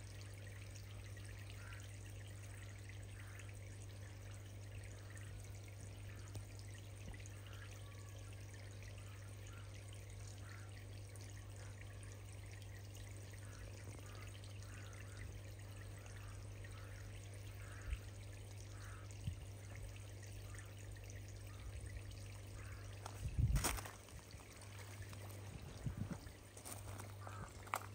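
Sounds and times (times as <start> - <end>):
water trickling in a pond: 0.0 - 27.9.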